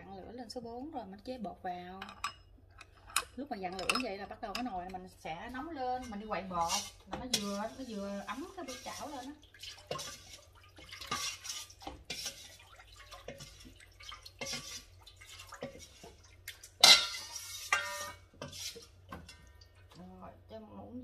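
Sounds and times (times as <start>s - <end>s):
spoon stirring batter in bowl: 2.0s - 20.0s.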